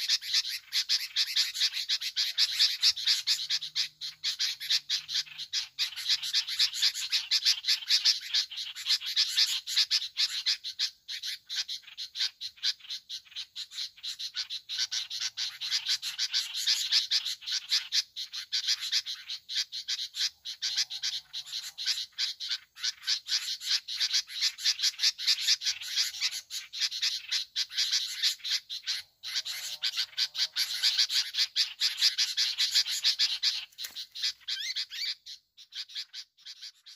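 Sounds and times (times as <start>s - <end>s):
chorus of frogs calling: 0.0s - 36.9s
faint short bird calls: 0.0s - 36.9s.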